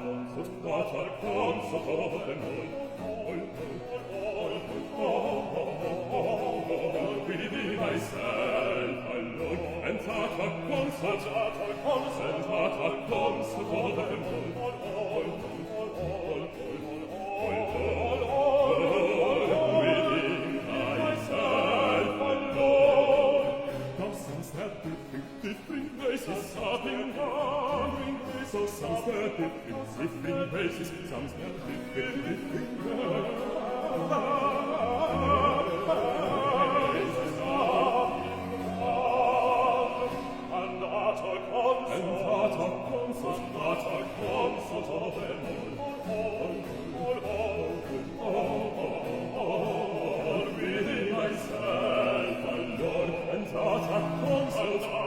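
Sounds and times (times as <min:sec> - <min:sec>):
bass voices singing operatically: 0:00.0 - 0:55.0.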